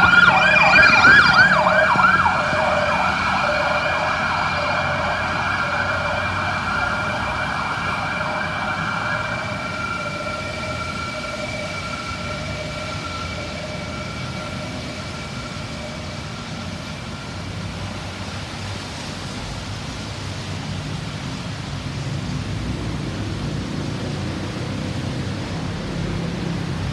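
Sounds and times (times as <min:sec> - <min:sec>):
emergency vehicle siren: 0:00.0 - 0:26.9
road traffic noise: 0:00.0 - 0:26.9.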